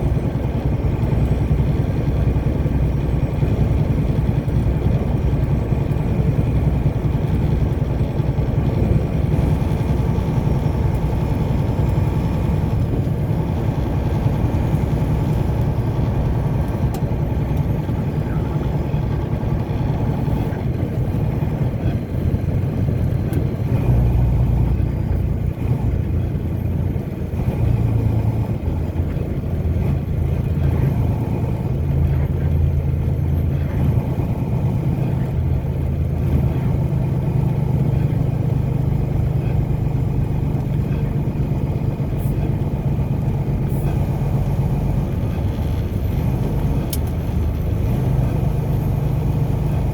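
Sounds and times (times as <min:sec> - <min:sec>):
car engine rumble: 0:00.0 - 0:49.9
tyres on road: 0:00.0 - 0:49.9.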